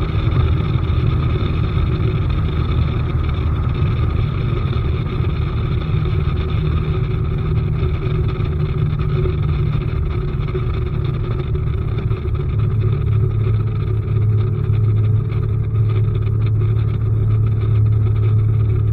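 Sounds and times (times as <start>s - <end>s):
outboard motor droning: 0.0s - 18.9s.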